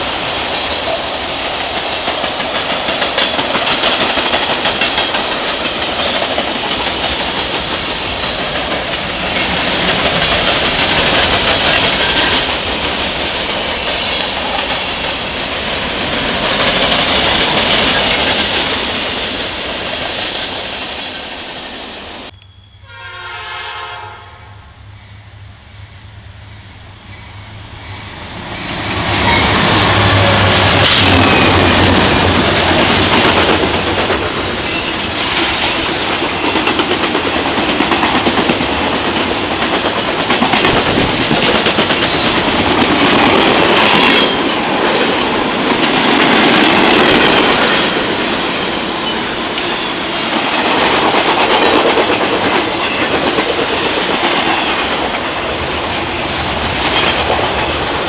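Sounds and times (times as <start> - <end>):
train wheels clickety-clack: 0.0 - 21.8, 28.3 - 58.0
diesel locomotive engine hum: 0.0 - 58.0.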